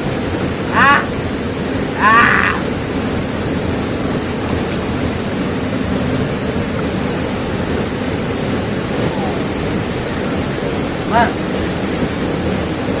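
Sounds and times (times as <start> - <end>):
rushing flowing water: 0.0 - 13.0.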